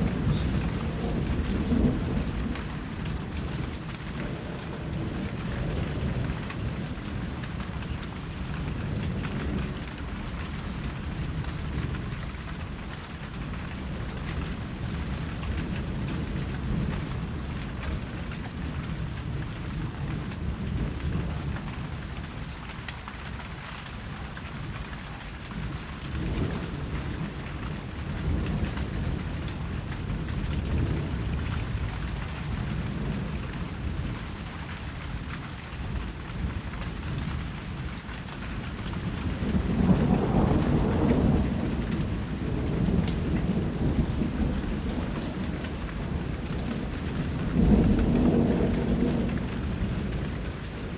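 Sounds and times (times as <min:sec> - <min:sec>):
rolling thunder: 0:00.0 - 0:22.6, 0:23.9 - 0:50.9
steady rain: 0:00.0 - 0:50.9.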